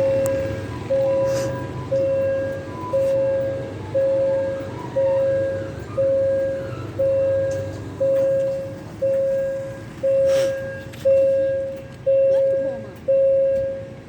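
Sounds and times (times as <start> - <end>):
level crossing signal beeping: 0.0 - 14.0.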